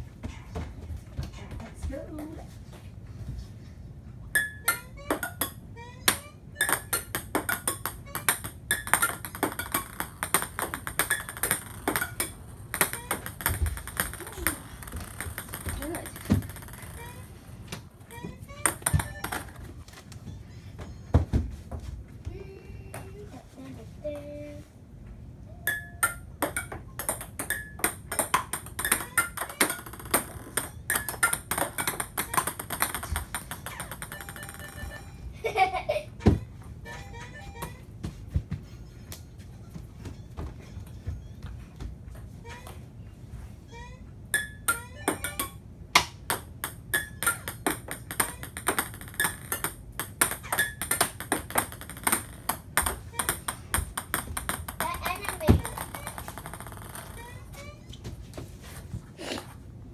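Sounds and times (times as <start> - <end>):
ping-pong balls bouncing on floor: 4.2 - 23.3, 25.6 - 42.8, 43.7 - 58.1.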